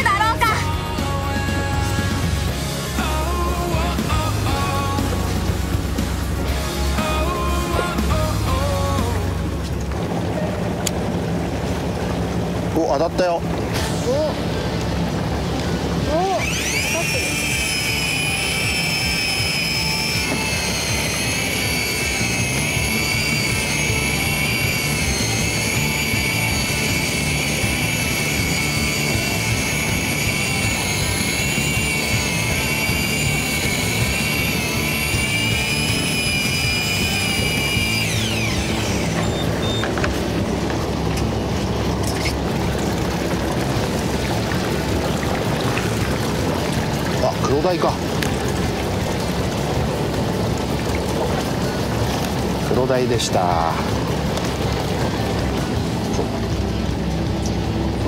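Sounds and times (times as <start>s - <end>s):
electric reel motor whine: 0.0s - 58.0s
low engine hum: 0.0s - 58.0s
water sloshing against hull: 3.7s - 58.0s.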